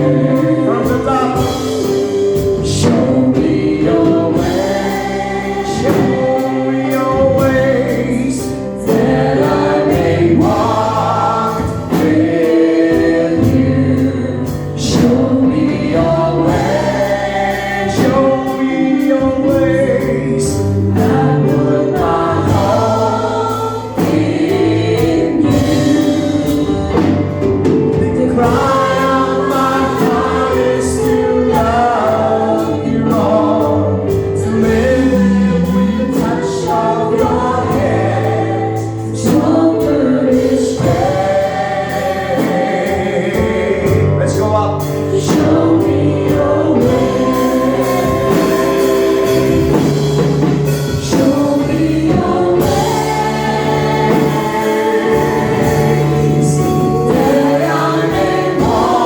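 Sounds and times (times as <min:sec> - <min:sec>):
band accompaniment: 0:00.0 - 0:59.0
congregation singing worship song: 0:00.0 - 0:59.0.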